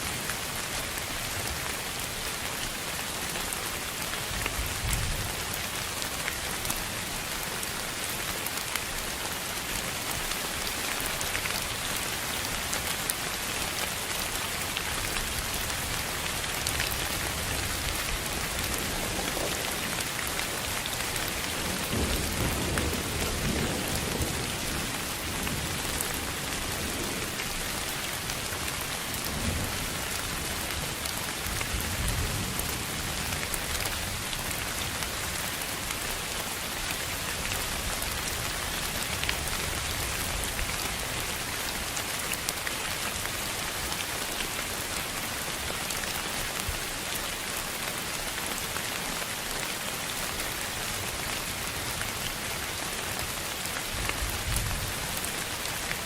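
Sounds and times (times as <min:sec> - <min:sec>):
rain-like steady hiss: 0:00.0 - 0:56.0.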